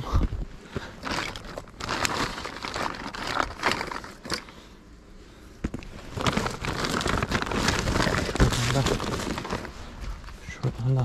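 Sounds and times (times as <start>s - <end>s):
fishing gear rustling and clicking: 0.7s - 4.8s, 5.6s - 10.4s.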